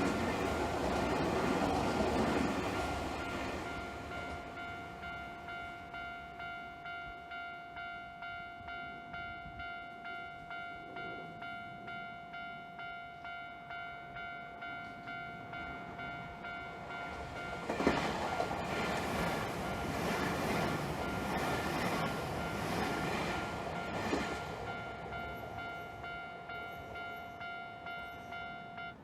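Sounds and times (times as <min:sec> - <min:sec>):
level crossing bell ringing: 0:00.0 - 0:29.0
train passing: 0:00.0 - 0:29.0.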